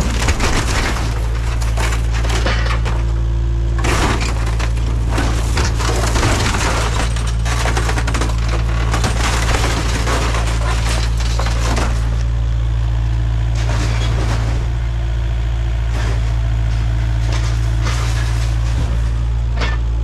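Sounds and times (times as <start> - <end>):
diesel engine droning: 0.0 - 20.0
metal crunching and cracking: 0.0 - 20.0.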